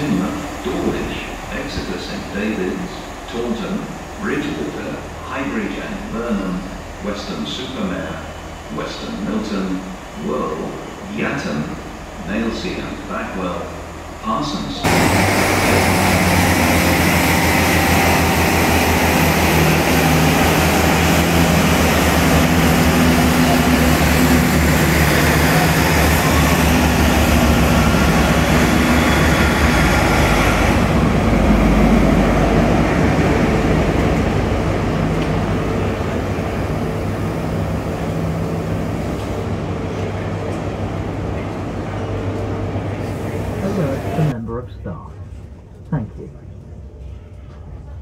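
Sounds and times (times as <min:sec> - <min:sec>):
diesel train engine throb: 0:00.0 - 0:48.0
rail noise: 0:00.0 - 0:48.0.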